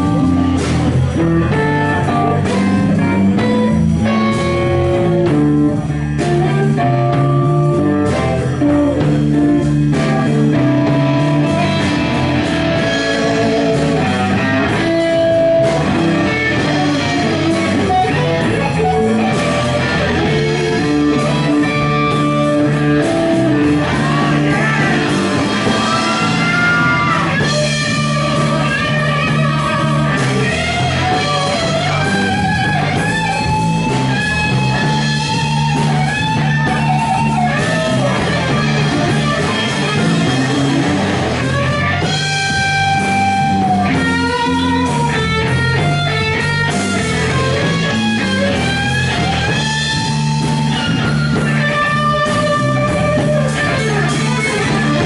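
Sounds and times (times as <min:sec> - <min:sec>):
electric guitar lead lines: 0:00.0 - 0:55.0
live blues-rock band: 0:00.0 - 0:55.0.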